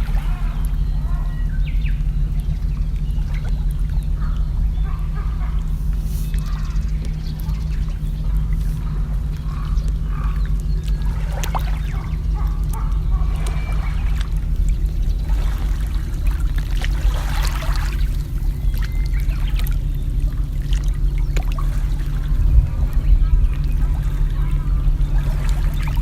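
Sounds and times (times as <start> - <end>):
steady low rumble: 0.0 - 26.0
water trickling and splashing: 0.0 - 26.0.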